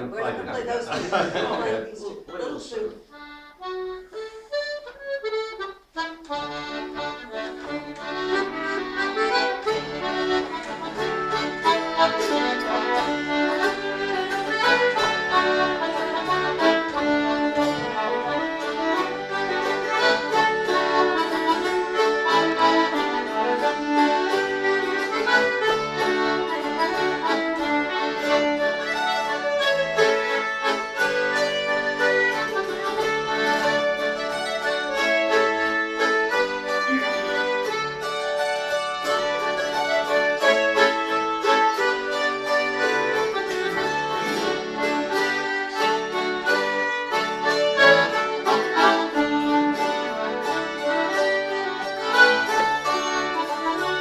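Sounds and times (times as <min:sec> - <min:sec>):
folk band playing: 0:00.0 - 0:54.0.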